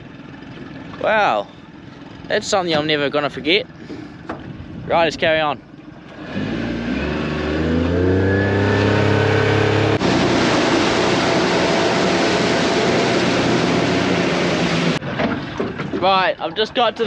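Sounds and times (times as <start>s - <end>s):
boat motor: 0.0s - 17.0s
rush of water and wind: 2.0s - 17.0s.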